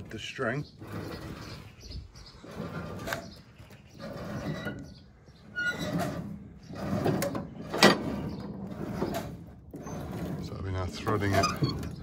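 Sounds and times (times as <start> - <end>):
metal clunks and scraping: 0.0 - 12.0.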